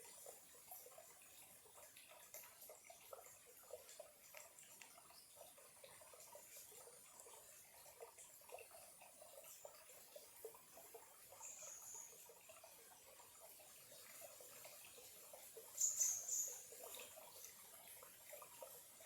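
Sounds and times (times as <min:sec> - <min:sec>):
stream trickling: 0:00.0 - 0:19.0.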